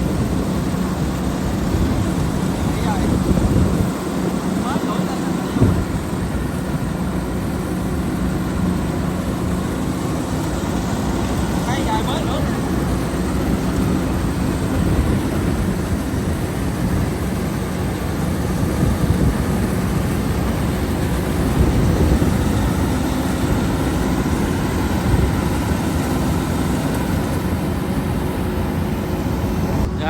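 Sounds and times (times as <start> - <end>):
combine harvester engine droning: 0.0 - 30.0.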